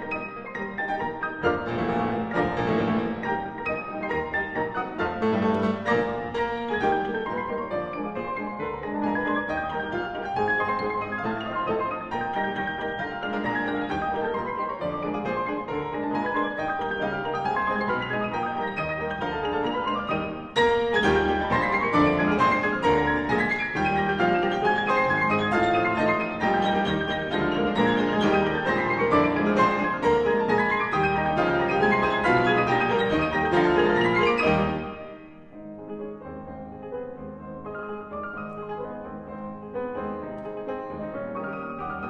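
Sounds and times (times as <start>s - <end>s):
two grand pianos playing: 0.0s - 42.0s.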